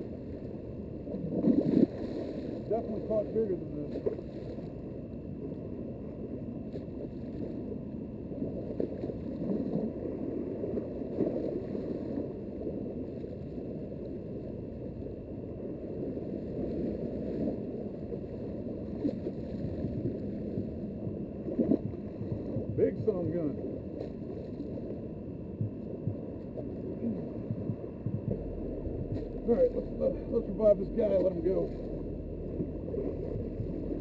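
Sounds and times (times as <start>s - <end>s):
faint water splashes: 0.0s - 34.0s
water and wind rumbling around boat: 0.0s - 34.0s.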